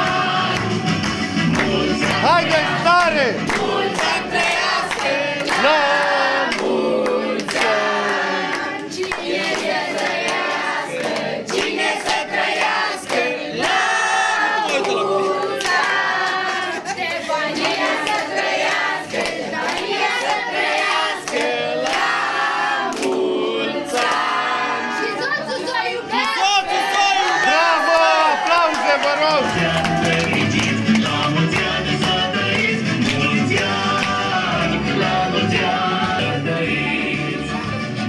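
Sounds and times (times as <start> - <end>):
hands clapping: 0.0 - 13.9, 14.6 - 22.2, 22.8 - 23.3, 23.9 - 24.3, 26.2 - 36.2
group singing birthday song: 0.0 - 38.0.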